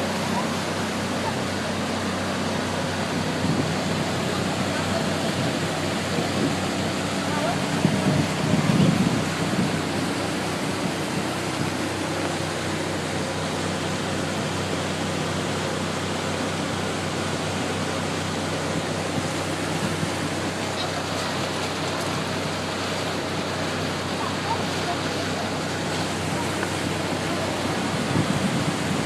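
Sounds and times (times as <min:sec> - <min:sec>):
motorboat engine hum: 0:00.0 - 0:29.0
rush of wind and water: 0:00.0 - 0:29.0.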